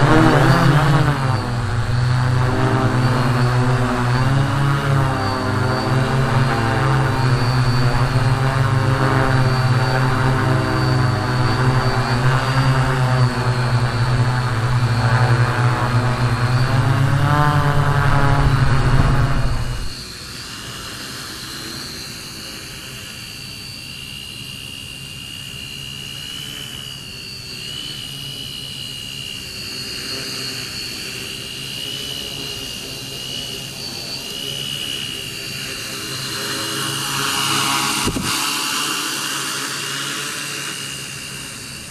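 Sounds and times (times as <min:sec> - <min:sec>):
drone motors buzzing: 0:00.0 - 0:41.9
steady high whine: 0:00.0 - 0:41.9.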